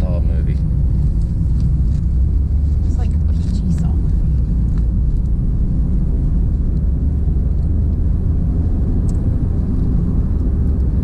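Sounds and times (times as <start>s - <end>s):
car interior road and engine noise: 0.0s - 11.0s.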